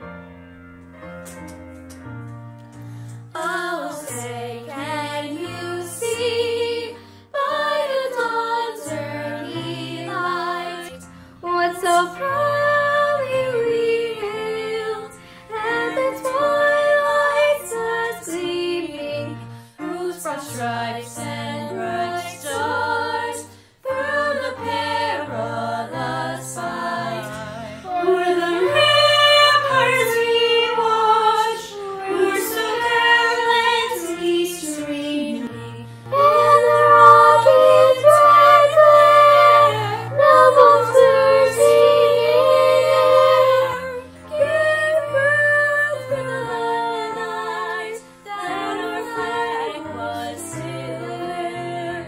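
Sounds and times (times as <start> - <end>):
piano accompaniment: 0.0 - 52.0
girls singing together: 3.3 - 52.0.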